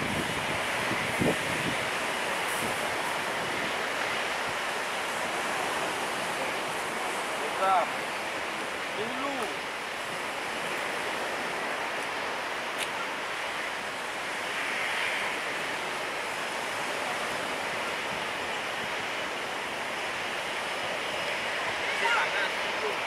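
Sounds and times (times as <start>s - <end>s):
surf breaking on beach: 0.0s - 23.0s.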